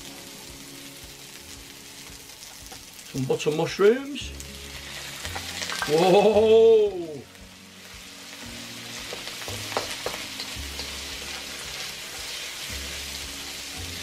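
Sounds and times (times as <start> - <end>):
vegetables sizzling in a wok: 0.0 - 14.0.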